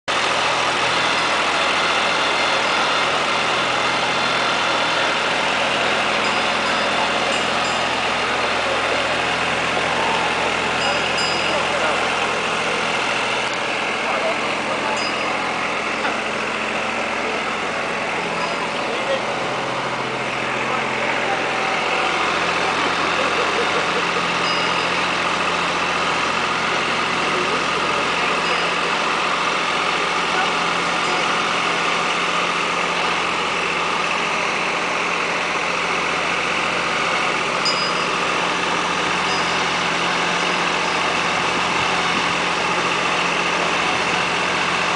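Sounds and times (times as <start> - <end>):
tractor engine running: 0.1 - 44.9.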